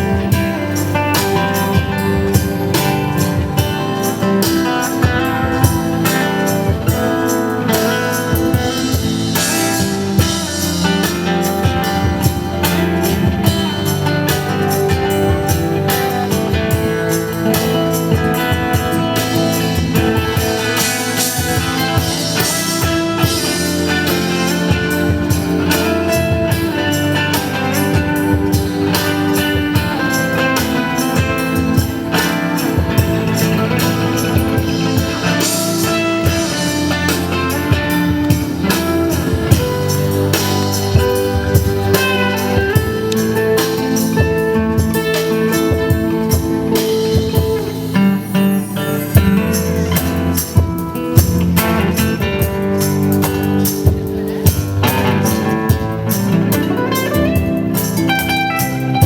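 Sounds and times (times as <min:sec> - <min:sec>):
drum kit steady beat: 0:00.0 - 0:59.0
guitar: 0:00.0 - 0:59.0
live band music: 0:00.0 - 0:59.0.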